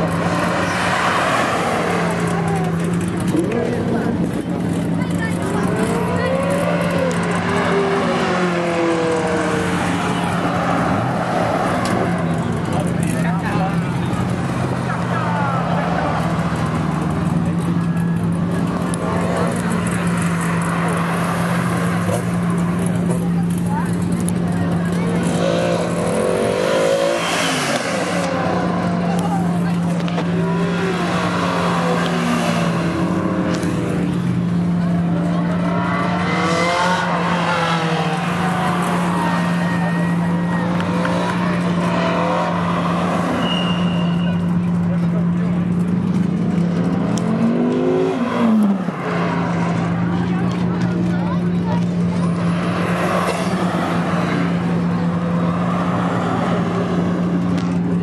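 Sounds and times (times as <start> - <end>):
sports car engines revving: 0.0 - 58.0.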